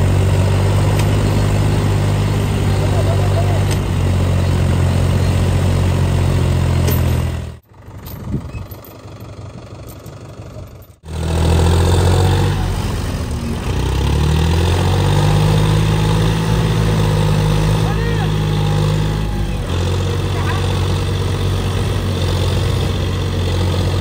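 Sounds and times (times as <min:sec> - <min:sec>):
diesel tractor engines under load: 0:00.0 - 0:24.0.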